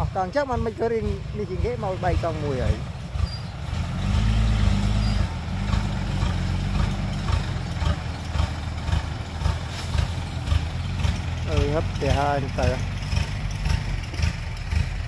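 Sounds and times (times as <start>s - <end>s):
diesel truck engine under load: 0.0s - 15.0s.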